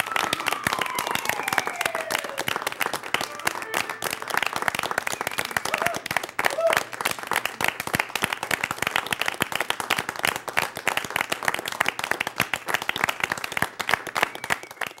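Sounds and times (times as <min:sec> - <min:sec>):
small group applauding: 0:00.0 - 0:15.0.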